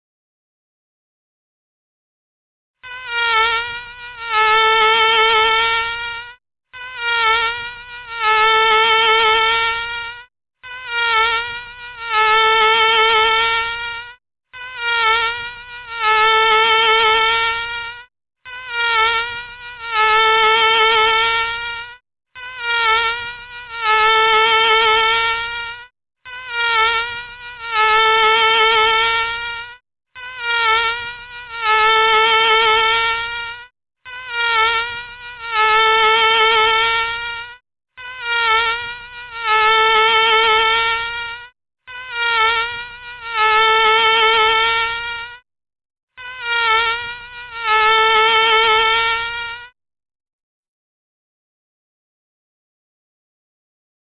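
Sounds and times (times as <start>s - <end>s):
mosquito whine: 2.8s - 45.5s, 46.2s - 49.8s.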